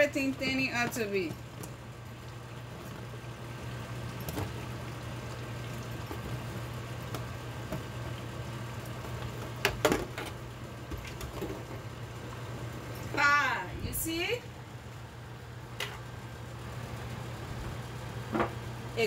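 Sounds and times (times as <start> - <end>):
stew simmering with ticks: 0.0 - 19.0.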